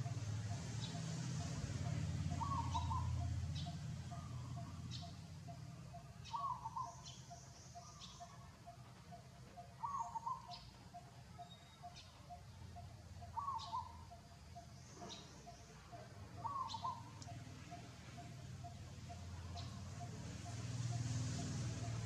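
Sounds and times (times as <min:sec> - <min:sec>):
bird warbled call: 0:00.5 - 0:22.0.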